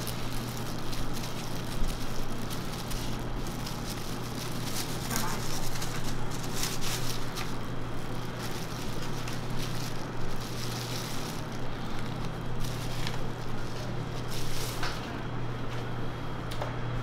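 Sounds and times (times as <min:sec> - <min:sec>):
plastic gloves crackling: 0:00.0 - 0:16.0
low hum of shop equipment: 0:00.0 - 0:17.0.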